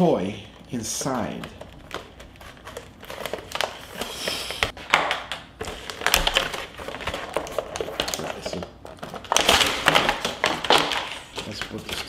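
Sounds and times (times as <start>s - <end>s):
packaging scratches and crinkles: 1.4s - 5.0s, 5.6s - 12.0s.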